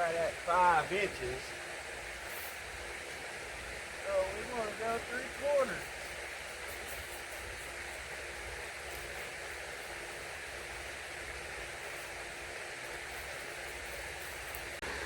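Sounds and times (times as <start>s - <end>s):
faint steady hum: 0.0s - 15.0s
outdoor background hiss: 0.0s - 15.0s.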